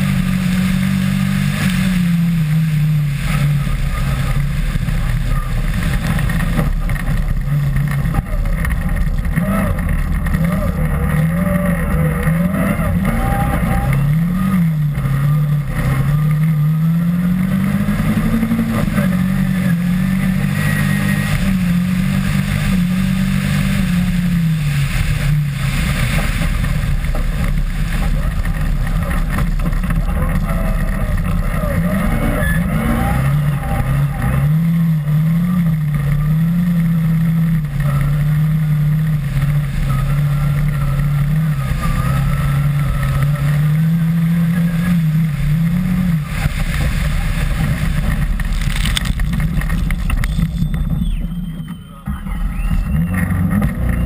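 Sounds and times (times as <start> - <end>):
rally car engine revving: 0.0 - 54.0
tyres rushing on snowy slush: 0.0 - 54.0.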